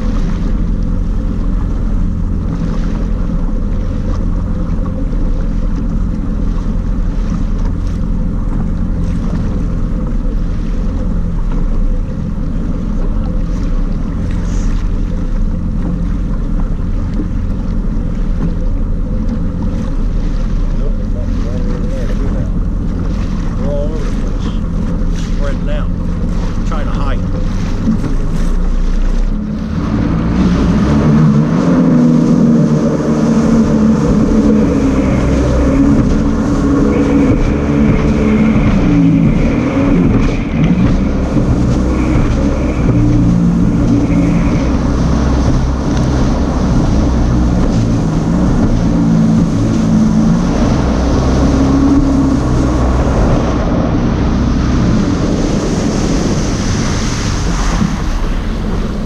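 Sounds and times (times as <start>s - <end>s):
jet ski engine revving: 0.0s - 59.0s
water rushing past hull: 0.0s - 59.0s
wind buffeting microphone: 0.0s - 59.0s.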